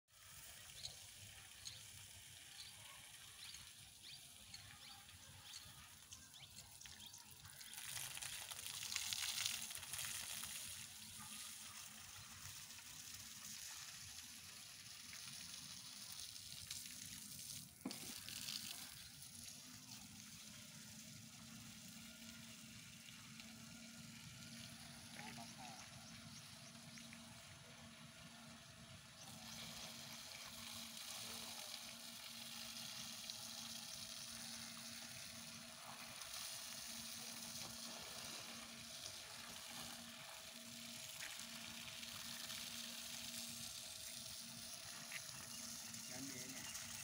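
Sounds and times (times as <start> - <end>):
faint outdoor hiss: 0.1 - 47.0.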